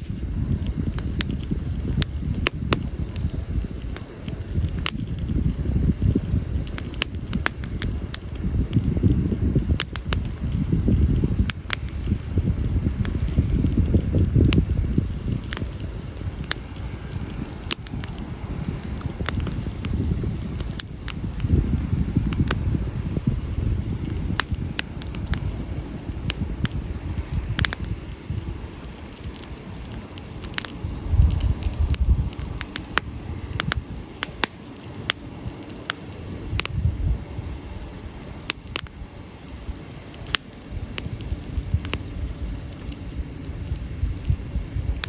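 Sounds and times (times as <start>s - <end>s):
campfire crackling: 0.0s - 45.0s
low fire rumble: 0.0s - 45.0s.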